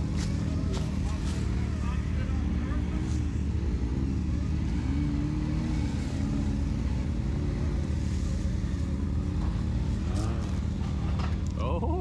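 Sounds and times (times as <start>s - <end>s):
utility vehicle engine at low revs: 0.0s - 12.0s.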